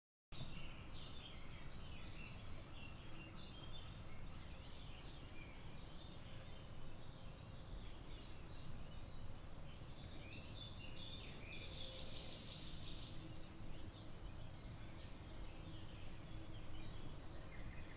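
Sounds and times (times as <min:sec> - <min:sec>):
birds chirping and trilling: 0:00.4 - 0:17.9.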